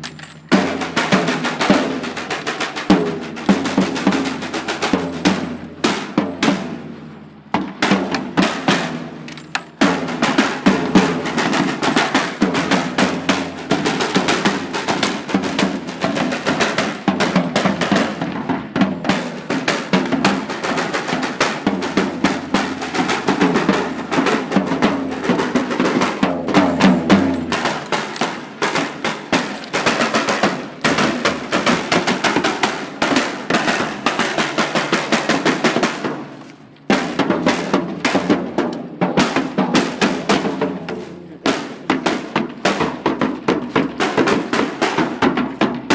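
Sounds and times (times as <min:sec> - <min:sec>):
drums playing: 0:00.0 - 0:45.9.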